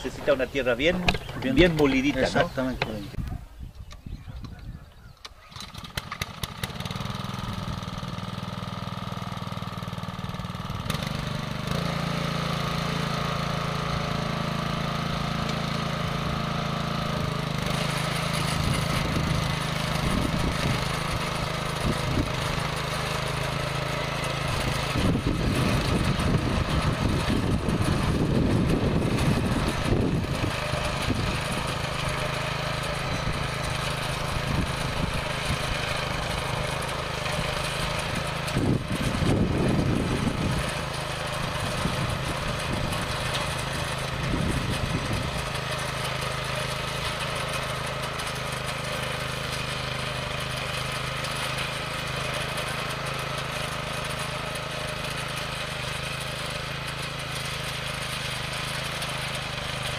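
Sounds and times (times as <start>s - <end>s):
rotary tiller engine running: 0.0s - 3.2s, 5.2s - 59.9s
tiller clattering: 0.0s - 3.2s, 5.4s - 59.9s.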